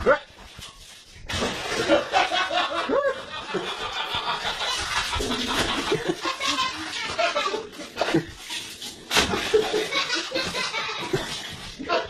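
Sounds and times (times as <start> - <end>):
people laughing: 1.7 - 12.0.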